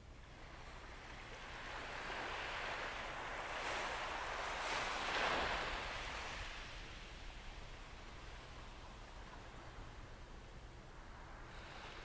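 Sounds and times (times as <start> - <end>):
wave washing up sand: 0.3 - 12.0.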